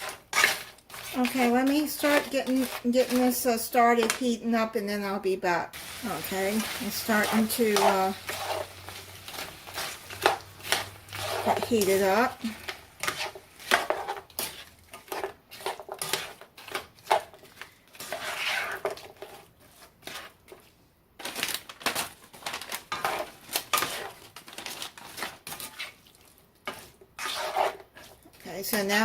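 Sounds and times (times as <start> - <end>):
metal utensil scraping a skillet: 0.0 - 4.2, 6.0 - 20.6, 22.9 - 26.0, 26.7 - 29.0.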